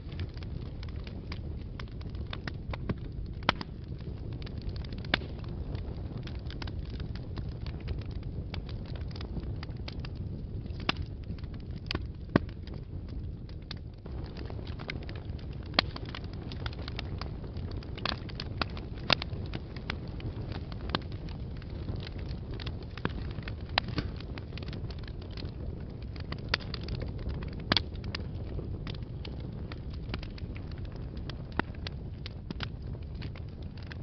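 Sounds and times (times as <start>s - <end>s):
fire crackling and popping: 0.0s - 34.0s
fire flames rumbling: 0.0s - 34.0s.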